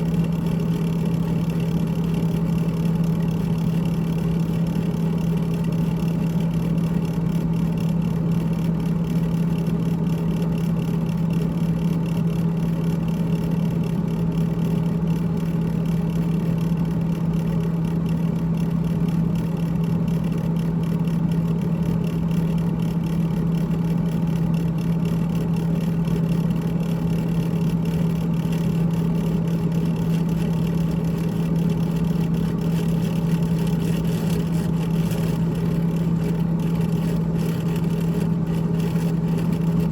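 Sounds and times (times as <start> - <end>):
refrigerator fan humming: 0.0 - 39.9.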